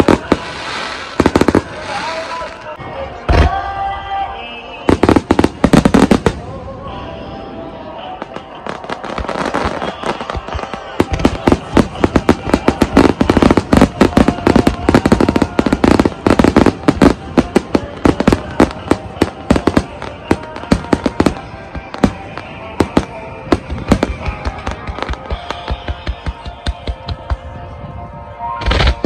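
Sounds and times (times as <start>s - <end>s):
fireworks bangs and crackles: 0.0s - 3.6s, 4.9s - 6.8s, 8.1s - 27.8s, 28.6s - 29.0s.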